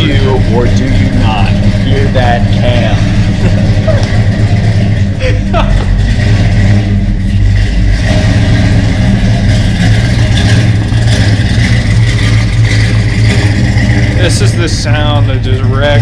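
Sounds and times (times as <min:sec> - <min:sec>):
car engine idling unevenly: 0:00.0 - 0:16.0.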